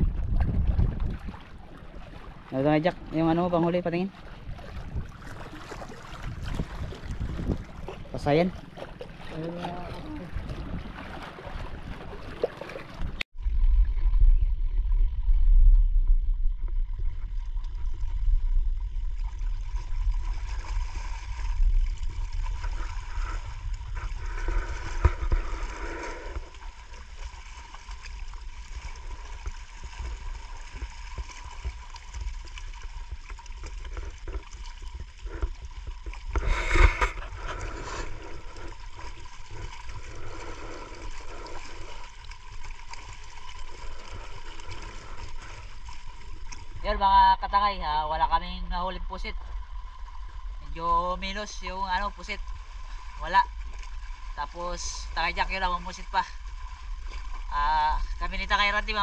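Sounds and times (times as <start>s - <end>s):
water lapping against rocks: 0.0s - 14.1s, 16.5s - 59.0s
wind rumbling on microphone: 0.0s - 55.5s.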